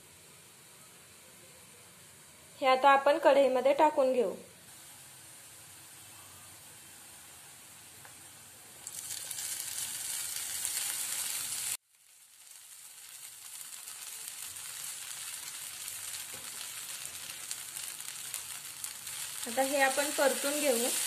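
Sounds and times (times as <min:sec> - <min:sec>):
food sizzling in hot oil: 0:03.0 - 0:21.0.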